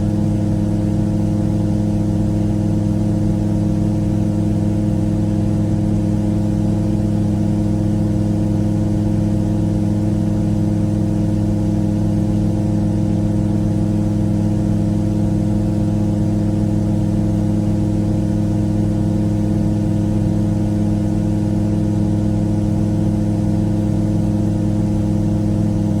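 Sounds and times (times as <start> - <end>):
light aircraft engine and propeller: 0.0 - 26.0.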